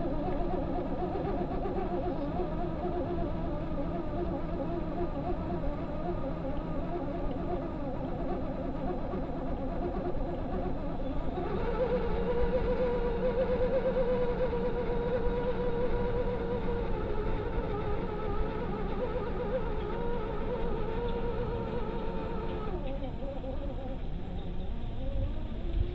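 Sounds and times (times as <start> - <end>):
electric motor and gears whining: 0.0 - 25.9.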